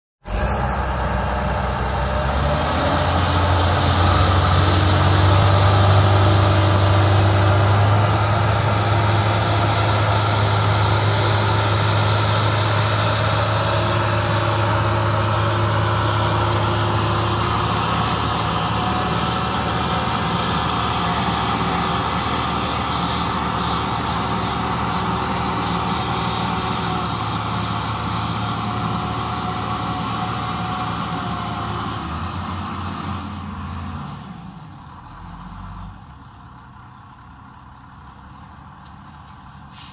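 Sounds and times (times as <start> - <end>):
heavy diesel engines under load: 0.2 - 39.9.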